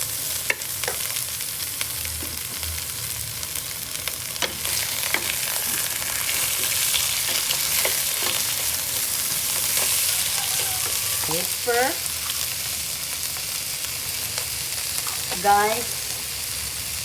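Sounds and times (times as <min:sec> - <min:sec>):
onion sizzling in a pan: 0:00.0 - 0:17.0.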